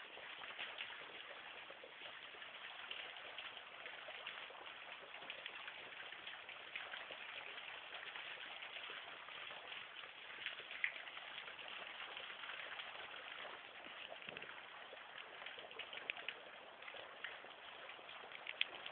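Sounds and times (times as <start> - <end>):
small drips and splashes: 0.0 - 18.9
water trickling: 0.0 - 18.9.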